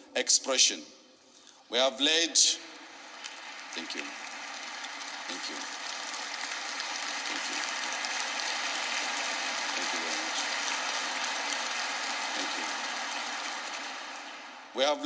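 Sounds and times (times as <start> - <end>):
audience applauding: 2.4 - 14.8.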